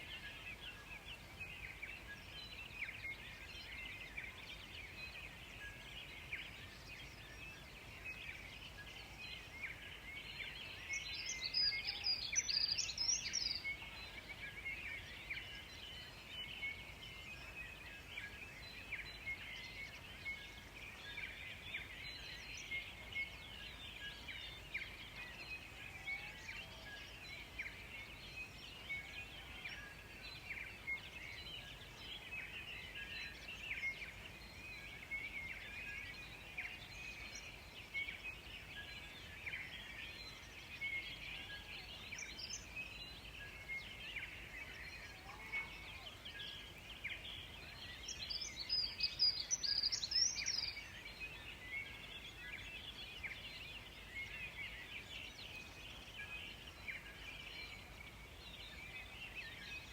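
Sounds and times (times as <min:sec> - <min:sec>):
rapid high bird song: 0:00.0 - 0:59.9.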